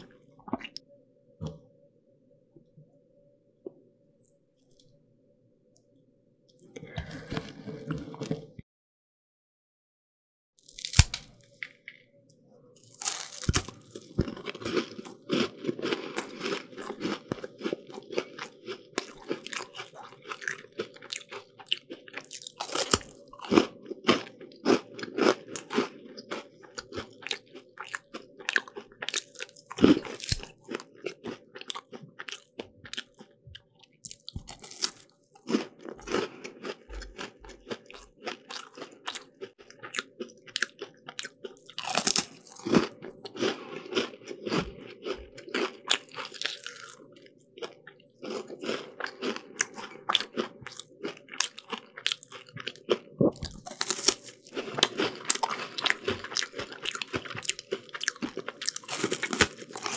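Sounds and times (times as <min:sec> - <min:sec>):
person chewing crunchy pastry: 0:06.6 - 0:08.6, 0:10.6 - 0:12.1, 0:12.8 - 0:59.9.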